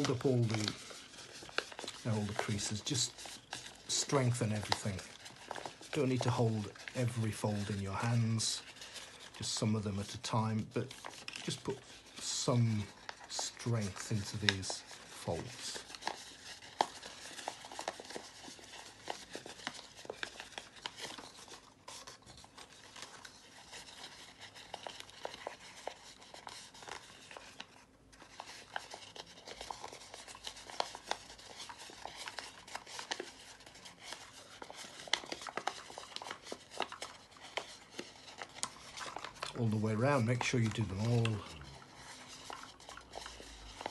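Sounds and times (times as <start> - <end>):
paper crackling and rustling: 0.0 - 43.9.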